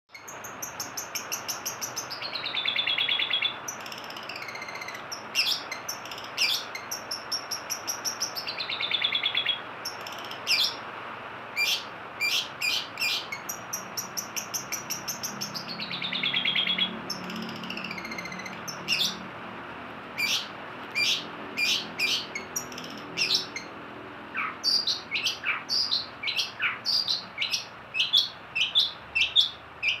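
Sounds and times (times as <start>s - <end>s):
shrike rattling trills: 0.1s - 10.8s, 11.6s - 19.3s, 20.2s - 30.0s.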